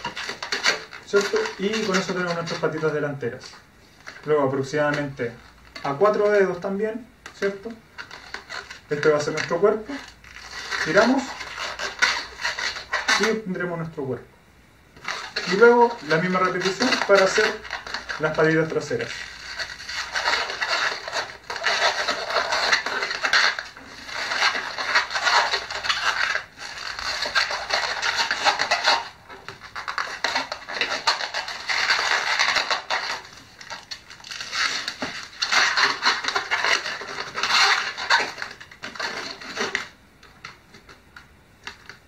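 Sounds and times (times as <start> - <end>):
rubber balloon squeaking and rubbing: 0.0 - 14.1, 15.0 - 41.0.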